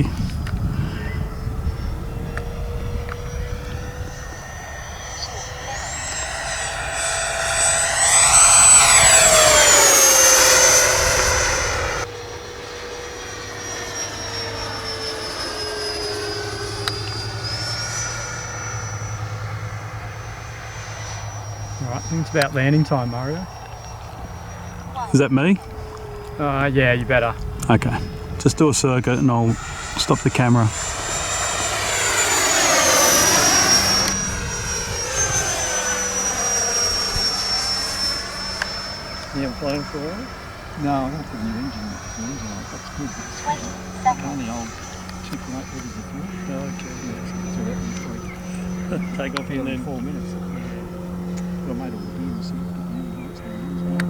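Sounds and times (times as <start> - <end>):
model jet fan whining: 0.0 - 54.0.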